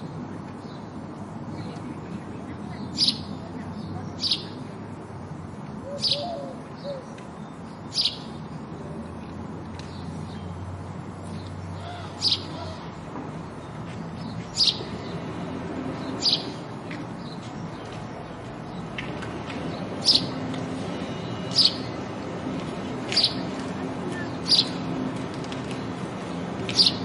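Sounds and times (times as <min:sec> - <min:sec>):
sparrow chirping: 0:00.6 - 0:08.6, 0:11.2 - 0:18.9, 0:19.7 - 0:25.1, 0:25.7 - 0:27.0.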